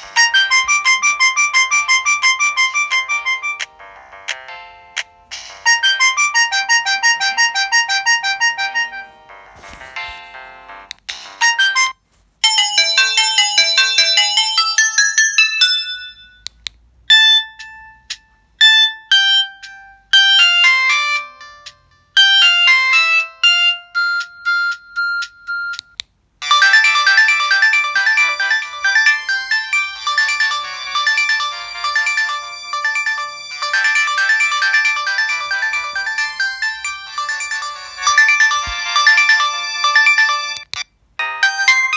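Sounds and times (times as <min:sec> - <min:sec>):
mobile phone ringtone melodies: 0:00.0 - 0:16.5, 0:17.1 - 0:41.9.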